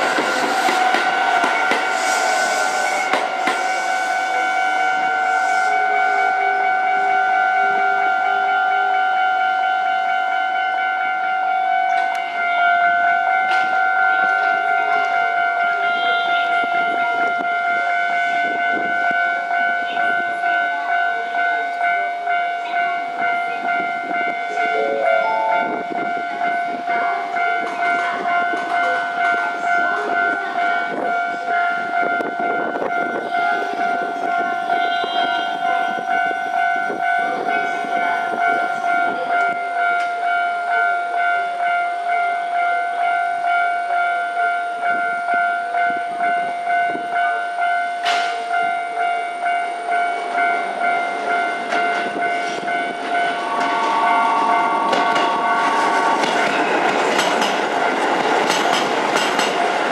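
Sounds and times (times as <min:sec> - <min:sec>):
level-crossing alarm ringing: 0:00.0 - 0:59.9.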